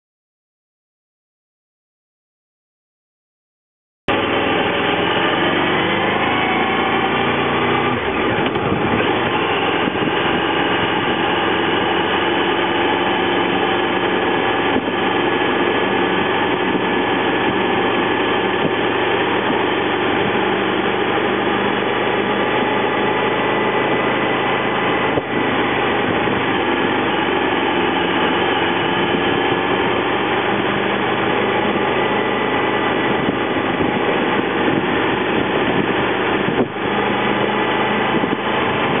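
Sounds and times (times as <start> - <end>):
motorcycle engine running: 4.1 - 39.0.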